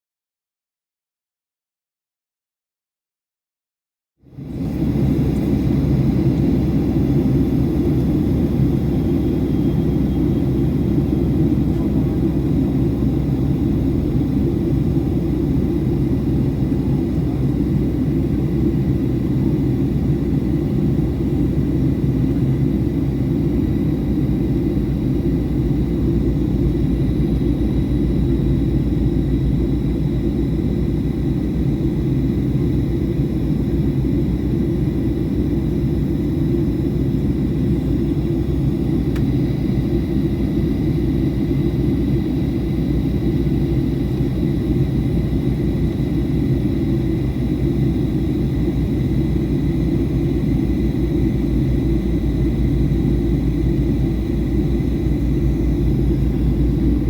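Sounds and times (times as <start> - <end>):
aircraft engines rumbling: 4.3 - 57.0
faint high whine: 4.4 - 57.0.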